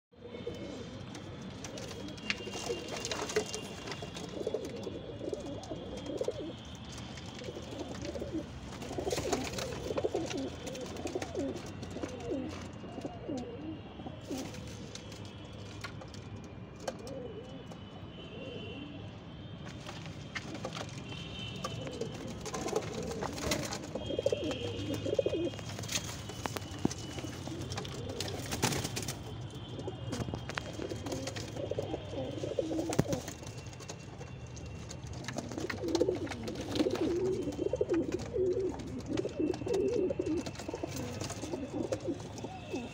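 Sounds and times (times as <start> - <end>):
pigeons cooing: 0.2 - 14.8, 21.6 - 33.6, 35.0 - 42.9.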